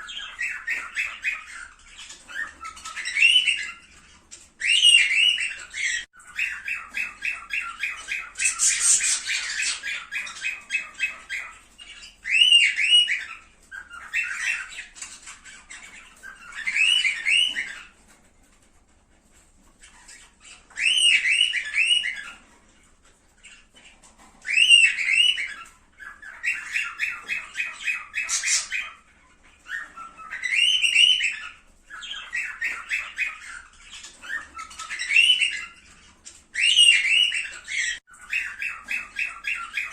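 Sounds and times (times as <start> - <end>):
cockatiels whistling and chirping: 0.0 - 39.9.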